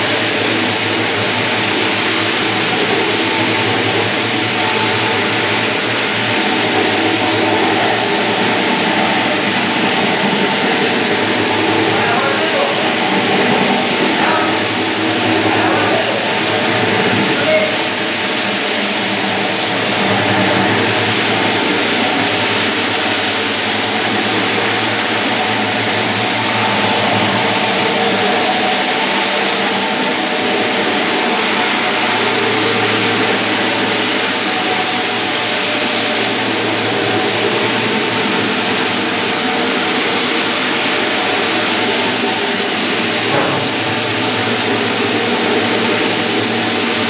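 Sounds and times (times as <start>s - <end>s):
floor polishing machine humming: 0.0s - 47.0s.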